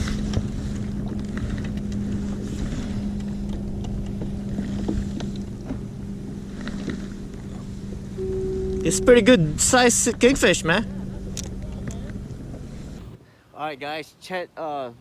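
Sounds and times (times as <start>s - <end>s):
rough sea water: 0.0s - 13.4s
wind: 0.0s - 15.0s
low hum: 0.6s - 13.2s.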